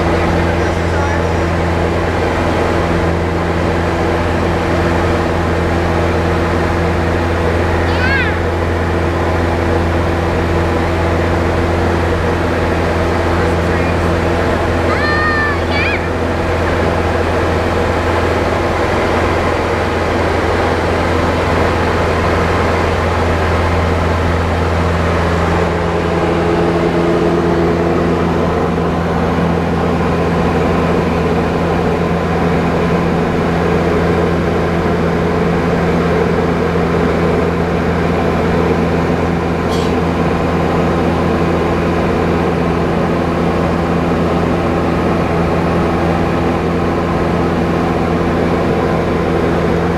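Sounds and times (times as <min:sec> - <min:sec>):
light aircraft engine drone: 0:00.0 - 0:49.9.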